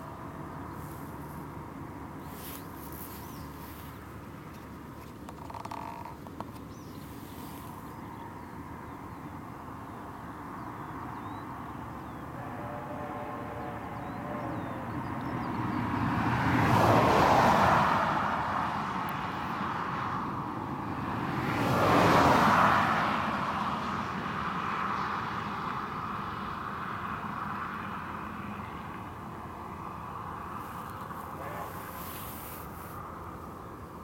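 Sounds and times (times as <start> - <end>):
cars passing by: 0.0 - 34.0.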